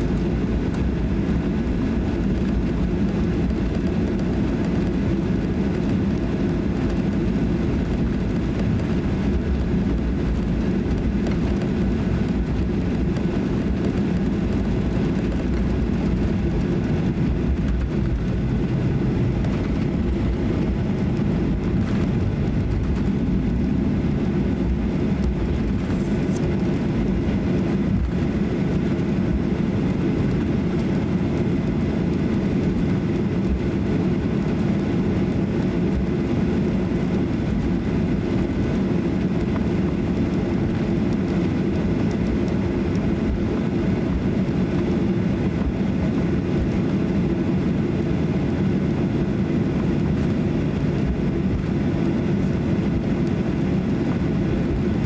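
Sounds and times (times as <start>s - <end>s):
airplane cabin rumble and hum: 0.0s - 55.0s.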